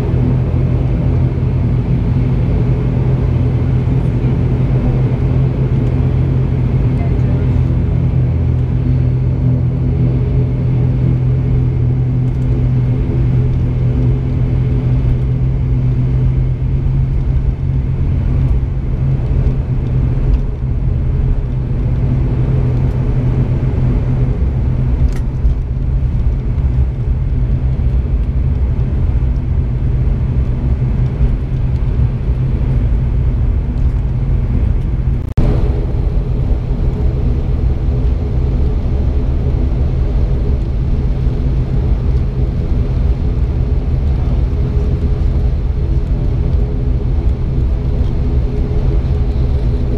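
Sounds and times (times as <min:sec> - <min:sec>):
turboprop engine drone: 0:00.0 - 0:49.9.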